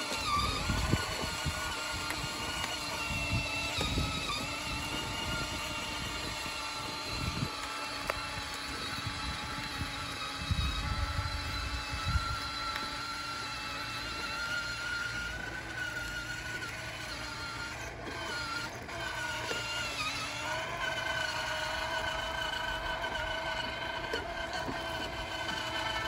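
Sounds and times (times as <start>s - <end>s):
plastic wheels rumbling on concrete: 0.0s - 26.0s
toy go-kart motor whine: 0.0s - 26.0s.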